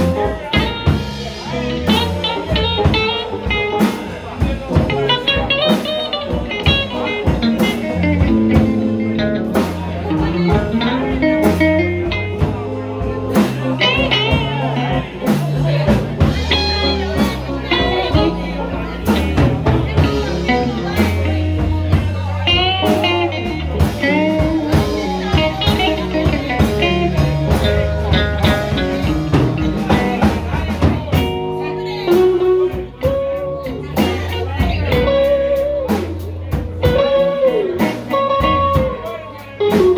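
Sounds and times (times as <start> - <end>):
blues guitar bent notes: 0.0 - 39.9
drums: 0.0 - 39.9
low bass notes: 0.0 - 39.9.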